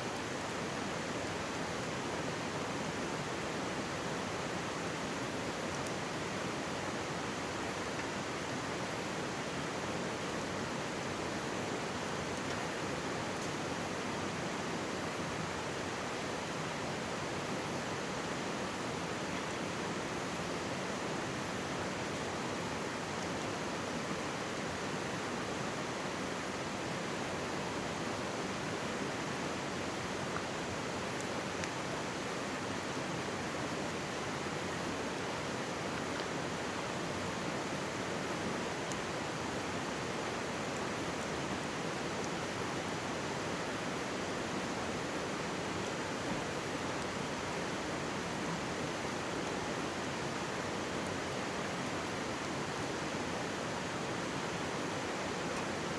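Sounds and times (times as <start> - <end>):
mountain stream babbling: 0.0 - 55.9.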